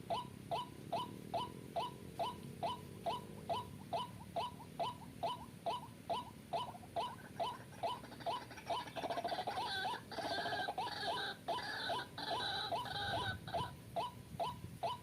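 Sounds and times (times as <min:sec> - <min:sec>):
bird chatter: 0:00.0 - 0:15.0
waterhen calling: 0:00.0 - 0:15.0.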